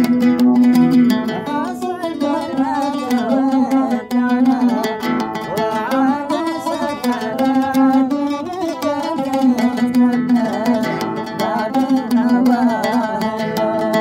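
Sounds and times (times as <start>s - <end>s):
oud melody: 0.0s - 14.0s.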